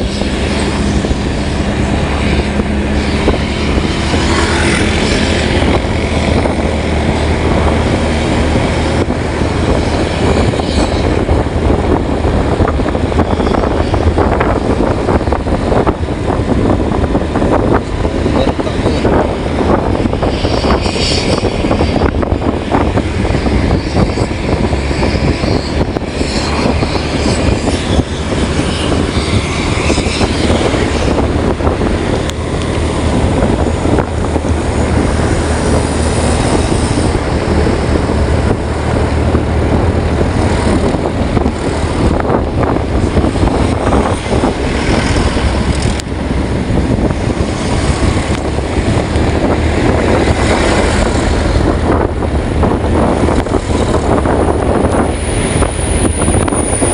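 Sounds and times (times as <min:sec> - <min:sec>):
constant rushing noise: 0:00.0 - 0:56.9
engine drone: 0:00.0 - 0:56.9.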